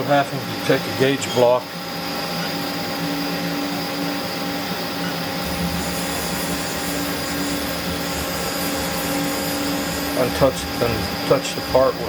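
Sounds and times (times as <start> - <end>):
lathe machine humming: 0.0 - 12.0.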